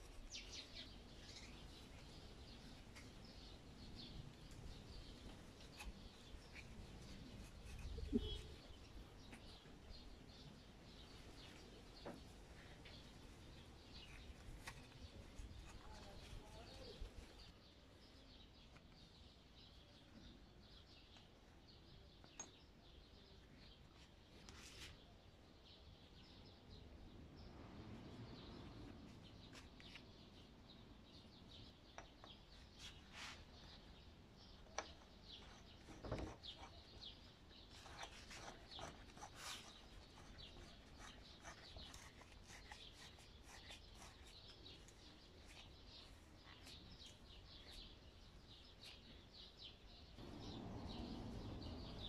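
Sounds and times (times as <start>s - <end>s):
faint small birds chirping: 0.0s - 52.0s.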